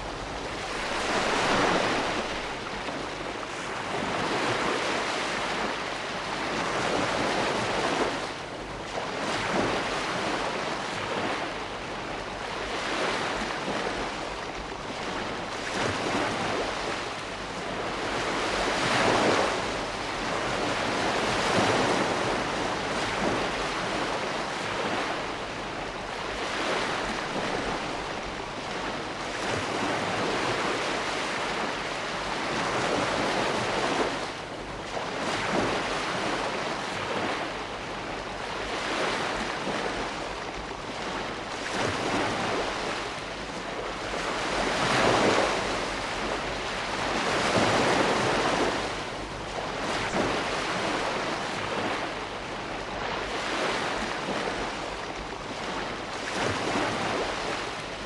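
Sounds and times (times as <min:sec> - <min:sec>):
ocean waves breaking: 0:00.0 - 0:58.0
wind: 0:00.0 - 0:58.0.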